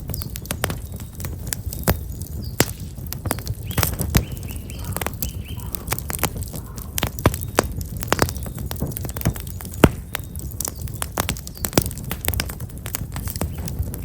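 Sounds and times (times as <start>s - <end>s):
campfire crackling and popping: 0.0s - 14.0s
small birds chirping: 0.0s - 14.0s.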